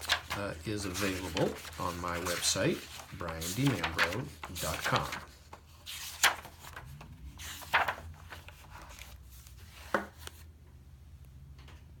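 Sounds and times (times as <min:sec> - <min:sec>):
book rustling: 0:00.0 - 0:10.5.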